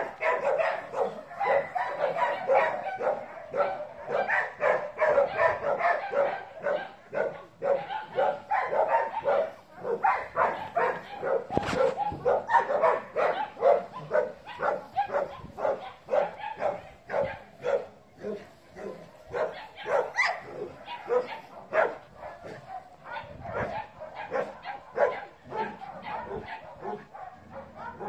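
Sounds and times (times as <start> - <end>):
dog barking: 0.0 - 28.0.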